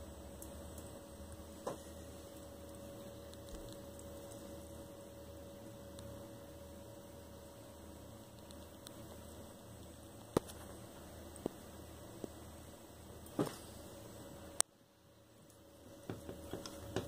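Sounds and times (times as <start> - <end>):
water pump hum: 0.0 - 17.0.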